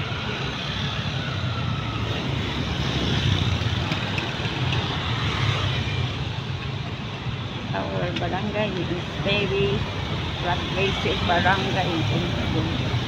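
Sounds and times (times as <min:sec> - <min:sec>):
passing vehicle engines rumble: 0:00.0 - 0:13.0
road traffic: 0:00.0 - 0:13.0.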